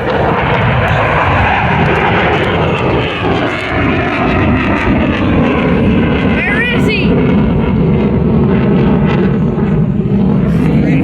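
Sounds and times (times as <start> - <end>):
jet flying past: 0.0 - 11.0.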